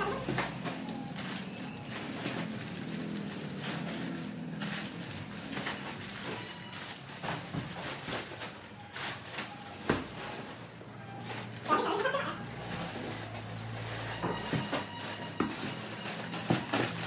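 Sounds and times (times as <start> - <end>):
plastic bags rustling: 0.0 - 17.0.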